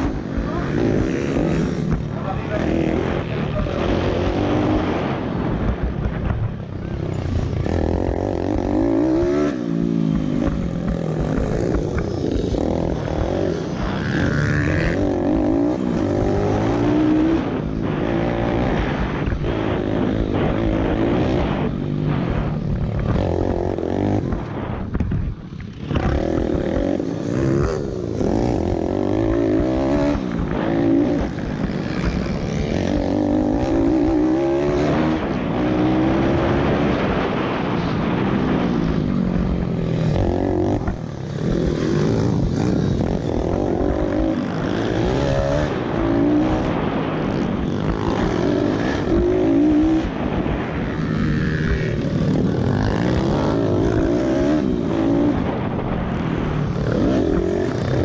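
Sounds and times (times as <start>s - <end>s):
motorbike engine revving: 0.0s - 58.0s
wind noise: 0.0s - 58.0s.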